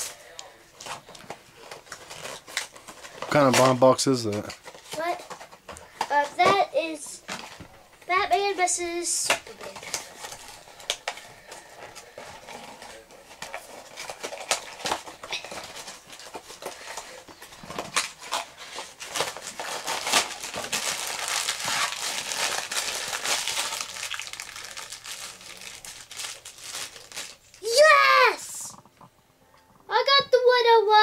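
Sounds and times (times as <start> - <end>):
foil bag crinkling: 0.8 - 6.4, 7.4 - 28.6.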